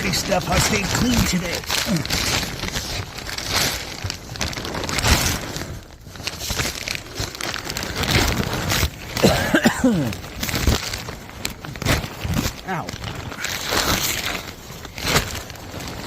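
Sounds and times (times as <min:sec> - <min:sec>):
plastic sheeting crinkling: 0:00.0 - 0:16.0.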